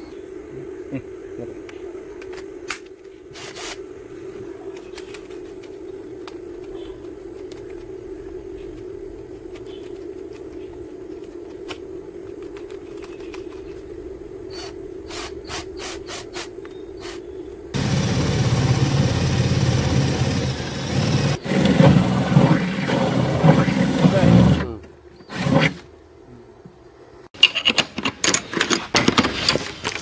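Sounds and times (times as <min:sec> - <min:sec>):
steady low hum: 0:00.0 - 0:25.2.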